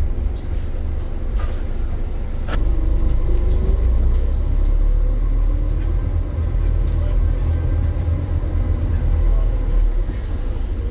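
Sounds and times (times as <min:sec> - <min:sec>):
bus engine rumble: 0:00.0 - 0:10.9.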